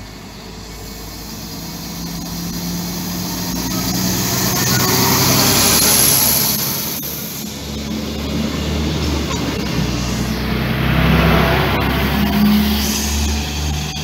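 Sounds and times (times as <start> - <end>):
diesel railcars passing: 0.0 - 14.0
thin high whine: 0.0 - 14.0.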